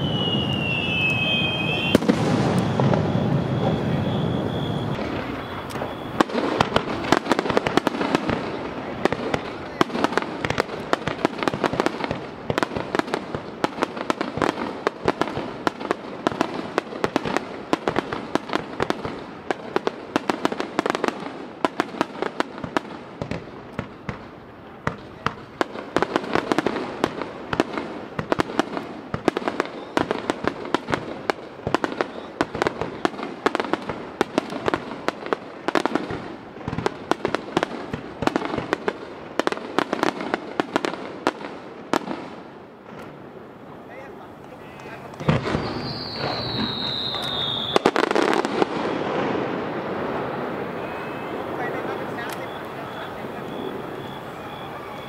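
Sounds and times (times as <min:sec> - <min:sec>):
loud firework booms: 0:00.0 - 0:43.9, 0:44.8 - 0:55.0
fireworks bangs and crackles: 0:00.0 - 0:55.0.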